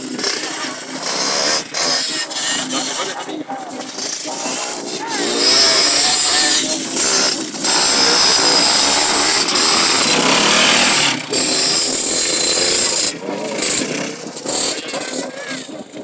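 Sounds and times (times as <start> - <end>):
two-stroke motorbike engines revving: 0.0 - 16.0.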